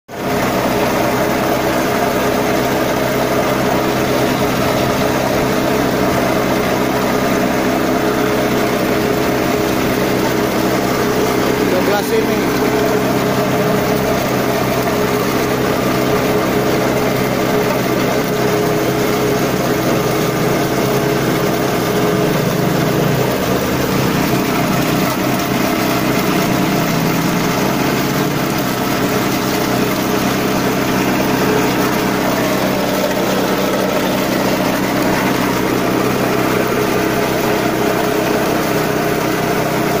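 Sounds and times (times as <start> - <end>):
small engine pulper running: 0.1 - 40.0.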